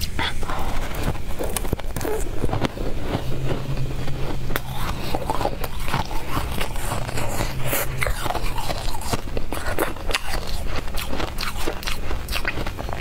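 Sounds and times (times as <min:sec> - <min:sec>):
crunching and chewing ice: 0:00.0 - 0:13.0
low steady hum: 0:00.0 - 0:13.0.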